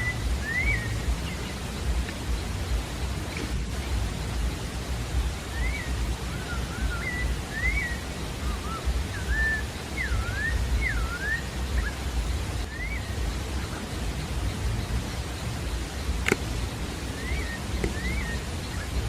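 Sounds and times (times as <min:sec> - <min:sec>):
outdoor rumble and hiss: 0:00.0 - 0:19.0
thrush singing whistled notes: 0:00.0 - 0:19.0.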